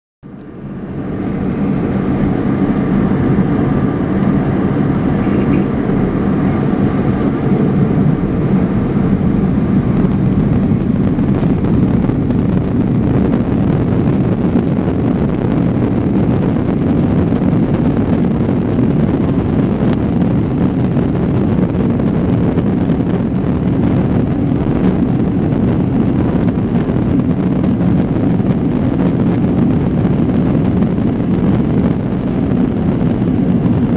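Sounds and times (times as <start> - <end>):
engine whine: 0.2 - 33.9
jet engines roaring in cabin: 0.2 - 33.9.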